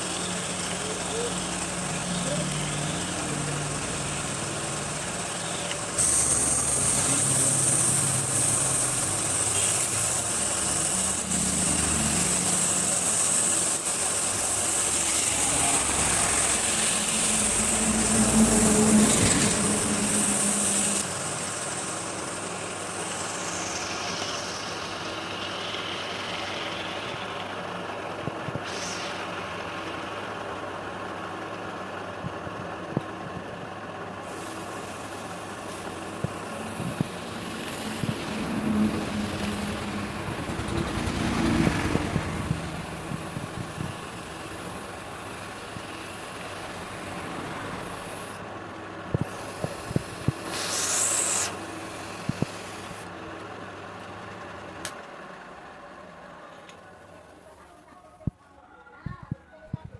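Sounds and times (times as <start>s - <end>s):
wood lathe running: 0.0s - 28.2s, 33.6s - 56.7s.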